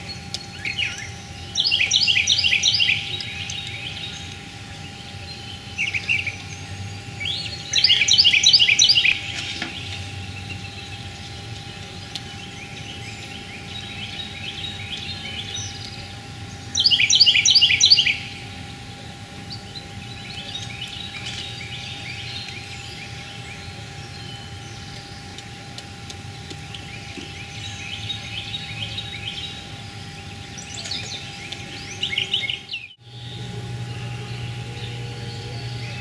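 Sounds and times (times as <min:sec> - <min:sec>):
faint constant hum: 0:00.0 - 0:36.0
songbirds trilling: 0:00.0 - 0:36.0.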